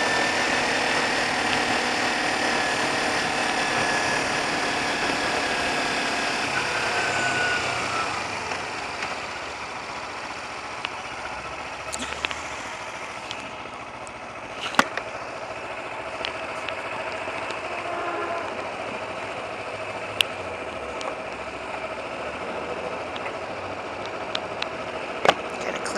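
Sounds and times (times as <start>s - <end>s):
motorcycle engine: 0.0s - 25.9s.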